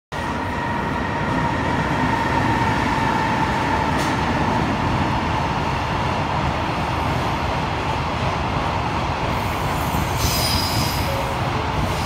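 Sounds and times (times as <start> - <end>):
train wheels on rails: 0.1 - 12.0.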